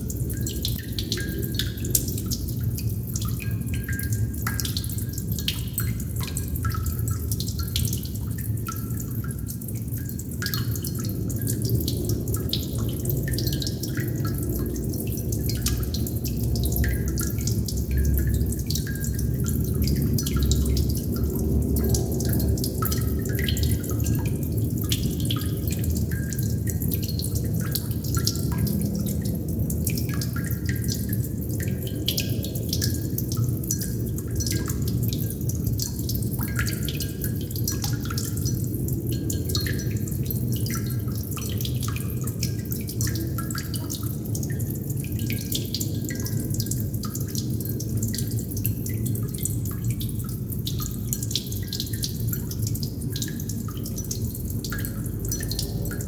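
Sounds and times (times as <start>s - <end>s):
low rumble of water: 0.0s - 56.0s
water droplets dripping: 0.0s - 56.0s.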